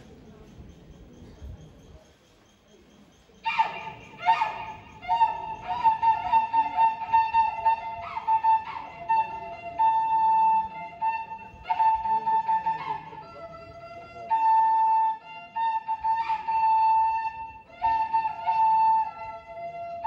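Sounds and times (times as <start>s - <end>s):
flute melody: 3.4s - 20.0s.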